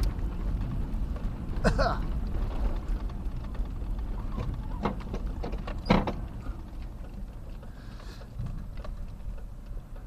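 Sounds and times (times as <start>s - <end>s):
knocks and rattles: 0.0s - 10.0s
road and wind rumble: 0.0s - 10.0s.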